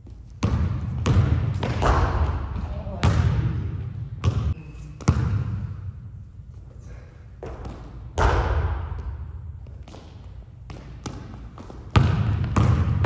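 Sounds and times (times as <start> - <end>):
basketball bouncing on wood floor: 0.0 - 5.7, 7.4 - 13.0.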